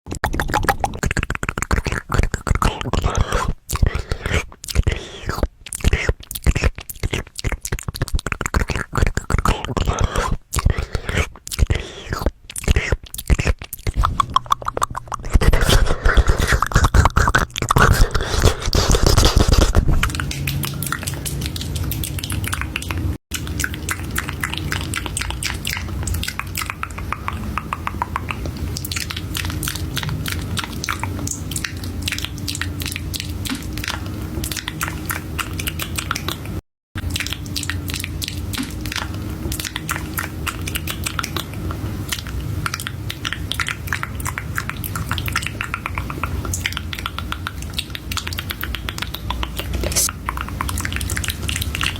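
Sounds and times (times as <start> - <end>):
mouth clicks and smacks: 0.1 - 51.9.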